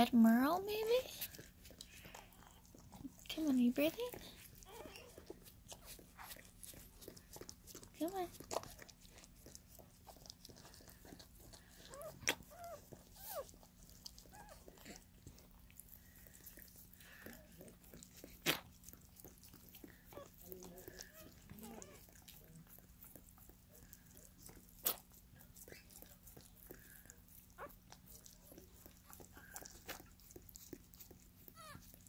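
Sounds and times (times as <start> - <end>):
dog licking puppy: 0.0 - 32.0.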